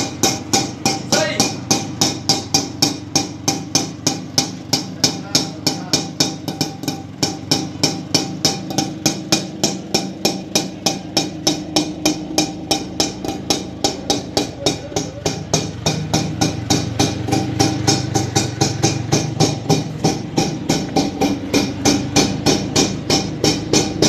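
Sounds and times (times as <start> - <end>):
auto-rickshaw engine idling: 0.0 - 24.0
sharp engine ticks: 0.0 - 24.0.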